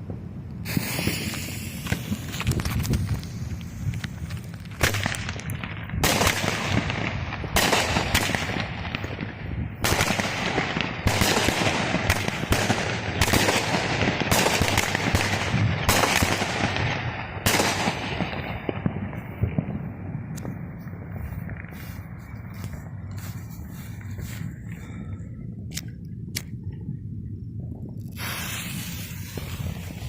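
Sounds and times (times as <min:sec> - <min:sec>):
fireworks bangs with crackling: 0:00.0 - 0:23.0, 0:28.1 - 0:30.0.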